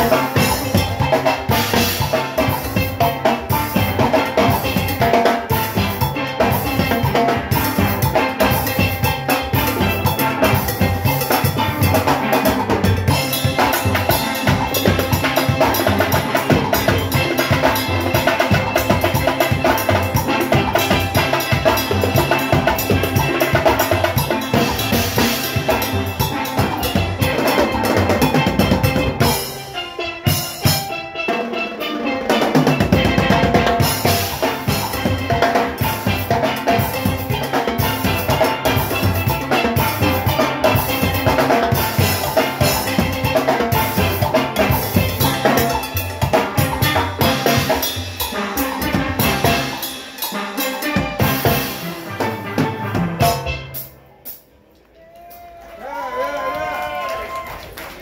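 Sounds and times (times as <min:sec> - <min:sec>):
steel pans playing tune: 0:00.0 - 0:54.1
drum kit and metal percussion: 0:00.0 - 0:57.7.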